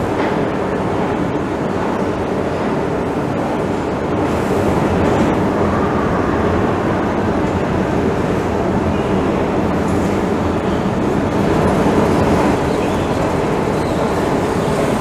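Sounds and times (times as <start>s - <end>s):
escalator mechanical noise: 0.0s - 15.0s.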